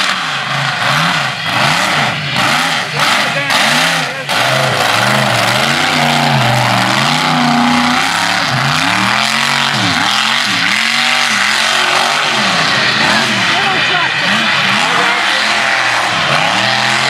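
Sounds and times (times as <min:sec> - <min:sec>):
truck engine revving: 0:00.0 - 0:17.0
tyres churning through mud: 0:00.0 - 0:17.0.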